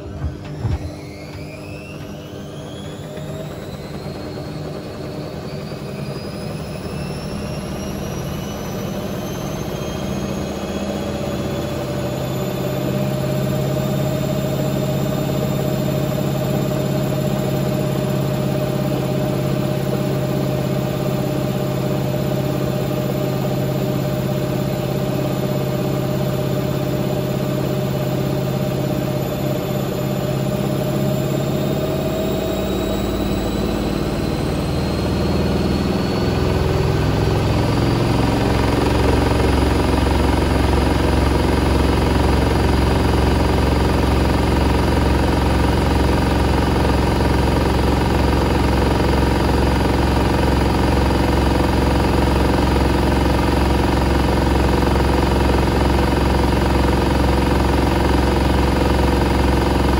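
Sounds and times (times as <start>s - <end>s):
washing machine motor whining: 0.0s - 59.9s.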